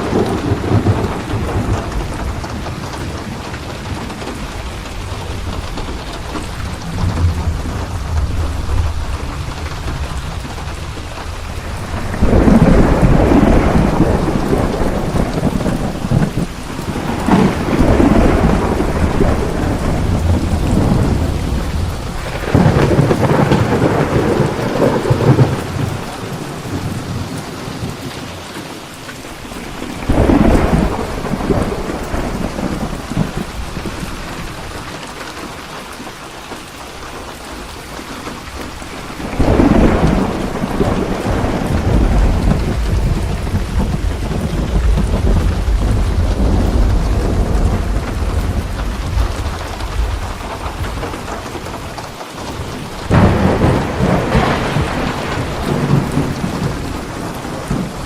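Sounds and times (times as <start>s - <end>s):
rolling thunder: 0.0s - 28.4s, 29.2s - 35.6s, 37.0s - 58.0s
heavy rain: 0.0s - 58.0s.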